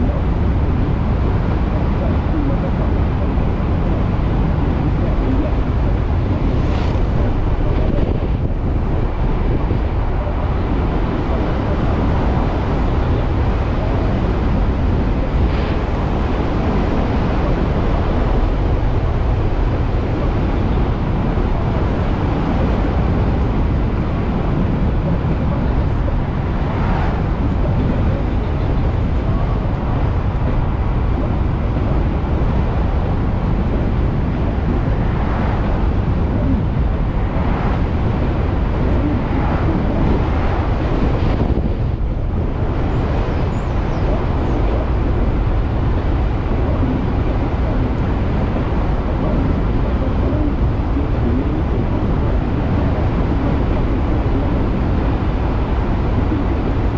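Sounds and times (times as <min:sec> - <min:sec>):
road and tyre noise: 0:00.0 - 0:56.9
wind buffeting microphone: 0:00.0 - 0:56.9.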